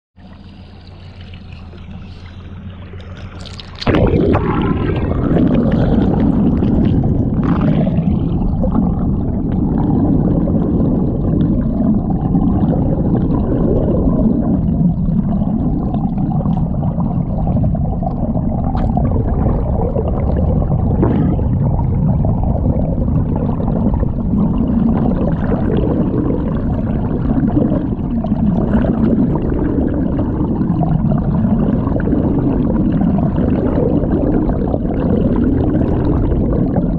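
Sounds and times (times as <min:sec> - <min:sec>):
water rushing underwater: 0:00.2 - 0:36.9.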